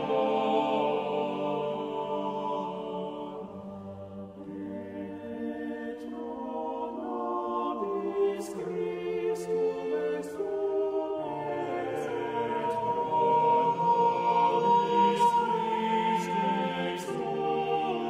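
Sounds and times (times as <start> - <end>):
choir singing long held notes: 0.0 - 18.0.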